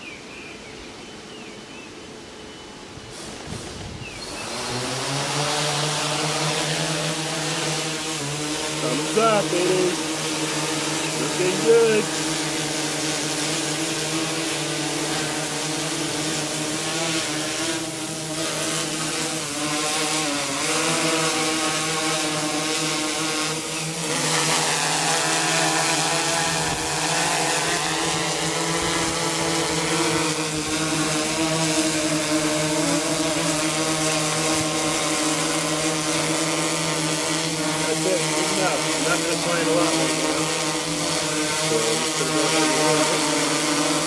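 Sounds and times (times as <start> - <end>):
drone propellers buzzing: 1.6 - 44.0.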